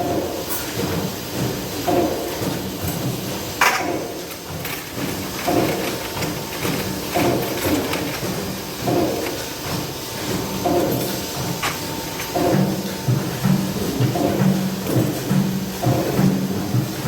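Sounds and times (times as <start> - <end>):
factory machine clunking: 0.0 - 17.0.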